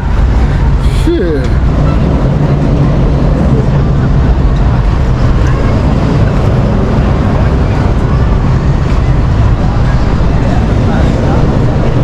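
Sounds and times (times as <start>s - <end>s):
motor rumbling: 0.0s - 12.0s.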